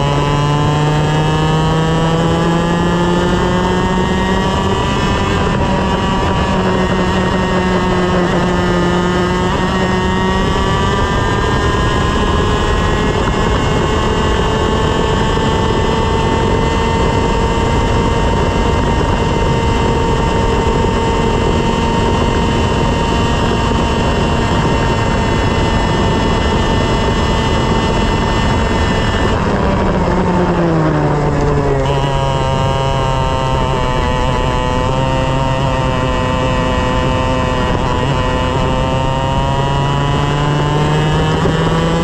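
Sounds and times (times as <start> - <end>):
two-stroke kart engine at full throttle: 0.0 - 42.0.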